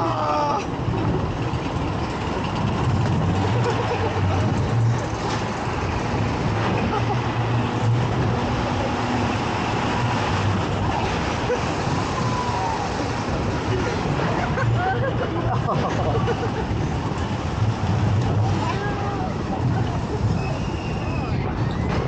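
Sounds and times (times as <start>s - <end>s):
roller coaster rumbling on track: 0.0s - 22.0s.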